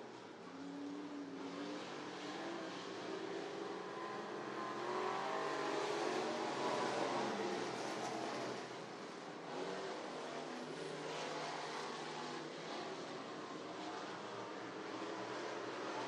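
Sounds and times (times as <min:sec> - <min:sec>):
stock car engines accelerating: 0:00.3 - 0:16.0.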